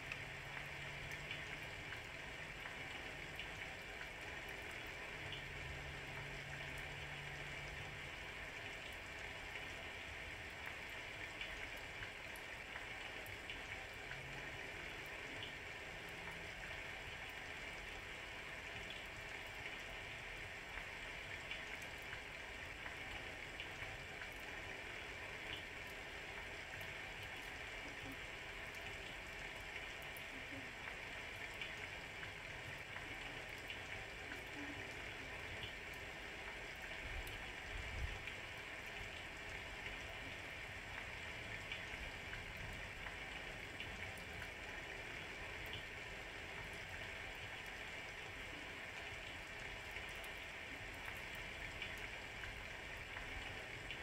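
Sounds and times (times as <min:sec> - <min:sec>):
drips ticking: 0:00.0 - 0:48.4
steady rain: 0:00.0 - 0:54.0.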